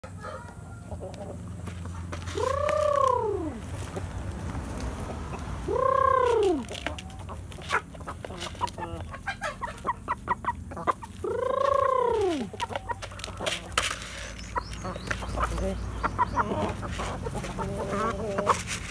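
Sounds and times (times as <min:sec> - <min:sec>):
chicken clucking: 0:00.0 - 0:18.9
chicken drawn-out calls: 0:00.0 - 0:18.9.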